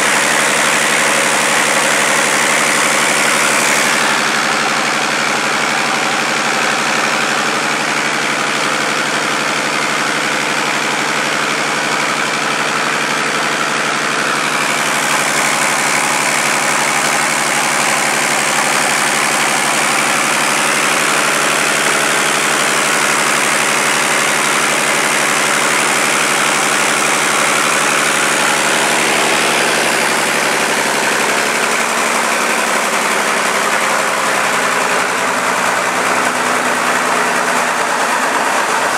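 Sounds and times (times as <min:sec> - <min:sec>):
diesel engine being turned over: 0:00.0 - 0:38.9.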